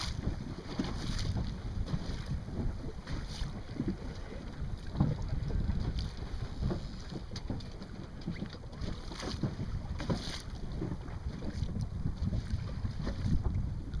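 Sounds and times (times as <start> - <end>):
water splashing against hull: 0.0 - 14.0
wind buffeting microphone: 0.0 - 14.0.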